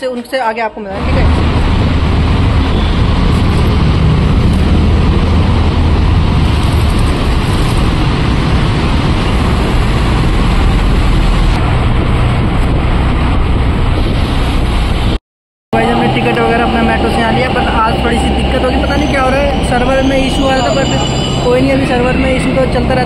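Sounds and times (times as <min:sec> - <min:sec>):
road and wind noise in vehicle: 0:00.0 - 0:23.0.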